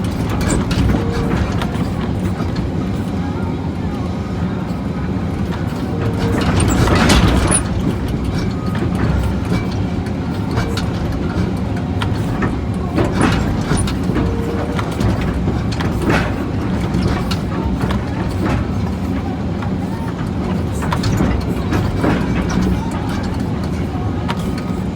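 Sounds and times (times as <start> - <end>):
diesel excavator engine running: 0.0 - 24.9.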